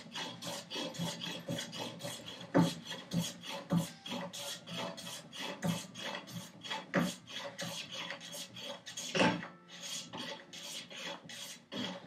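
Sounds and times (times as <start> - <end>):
hand plane shaving wood: 0.0 - 12.0.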